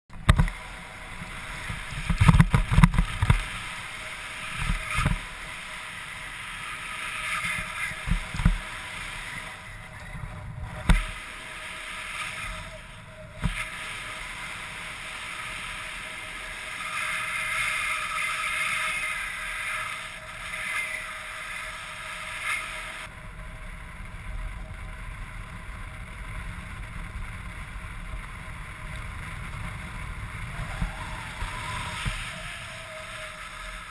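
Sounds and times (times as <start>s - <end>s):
wind rushing over microphone: 0.1s - 33.9s.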